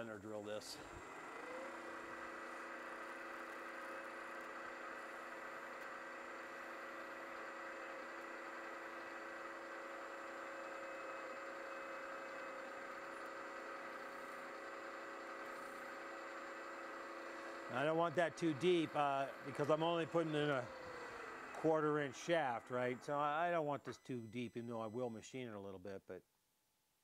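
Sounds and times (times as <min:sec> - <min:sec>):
milling machine spindle whine: 0:00.0 - 0:25.4.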